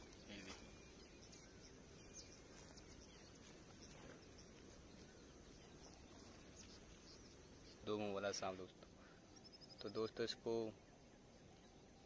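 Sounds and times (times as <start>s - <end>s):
faint high chirps: 0.0s - 12.0s.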